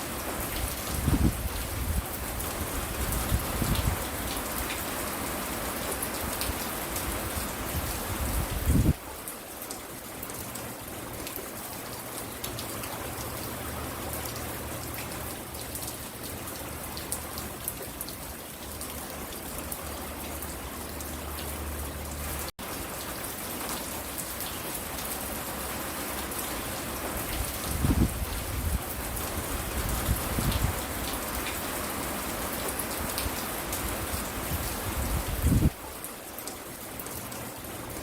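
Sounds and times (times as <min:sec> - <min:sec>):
rain tapping on hard surfaces: 0:00.0 - 0:38.0.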